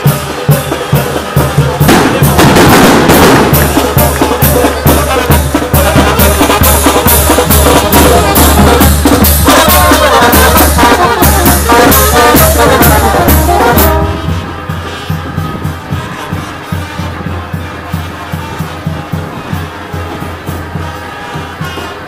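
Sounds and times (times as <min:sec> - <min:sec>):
drum beat: 0:00.0 - 0:22.0
marching brass band: 0:00.0 - 0:22.0.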